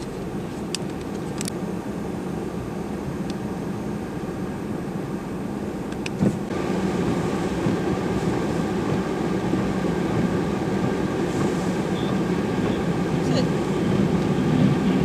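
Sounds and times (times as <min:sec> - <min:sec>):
road noise: 0:00.0 - 0:15.0
vehicle engine running: 0:00.0 - 0:15.0.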